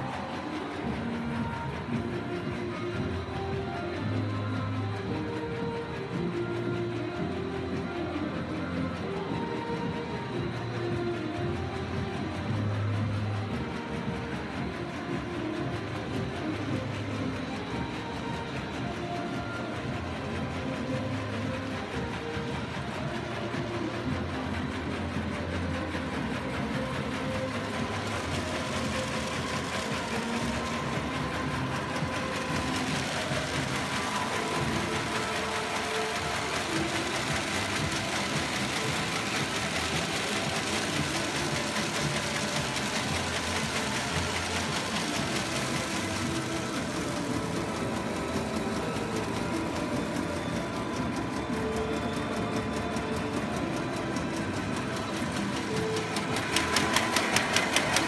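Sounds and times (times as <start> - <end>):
bag making machine clattering: 0.0 - 58.0
steady machine whine: 0.0 - 58.0.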